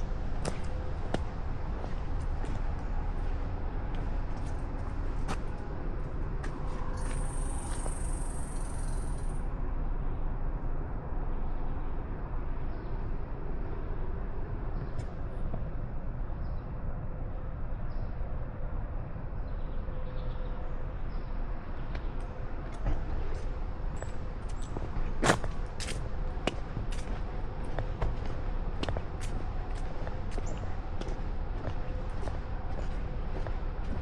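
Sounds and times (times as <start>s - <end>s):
low rumbling outdoor noise: 0.0s - 34.0s.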